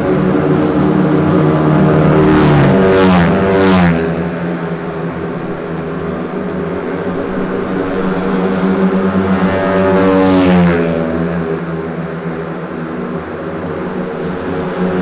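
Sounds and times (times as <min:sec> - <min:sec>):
motorcycle engines at high revs: 0:00.0 - 0:15.0
motorcycle passing by: 0:00.0 - 0:15.0.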